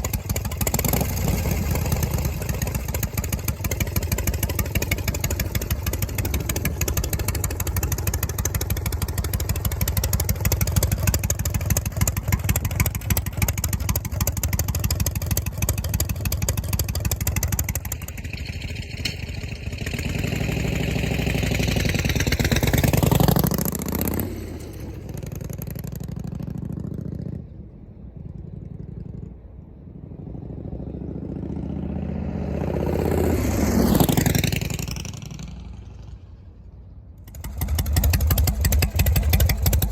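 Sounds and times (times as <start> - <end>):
motorcycle riding past: 0.0 - 39.9.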